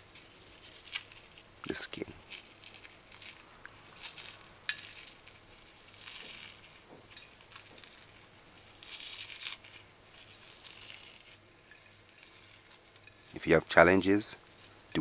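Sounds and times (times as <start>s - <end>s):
fish skin crackling and rustling: 0.0s - 15.0s.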